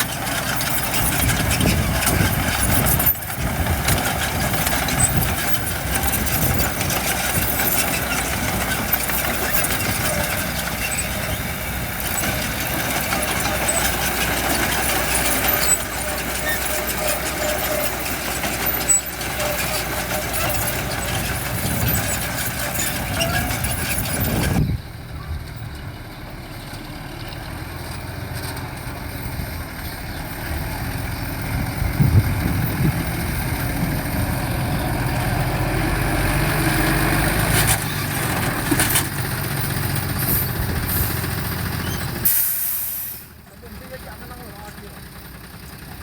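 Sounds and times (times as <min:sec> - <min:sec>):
construction machinery diesel engines: 0:00.0 - 0:46.0.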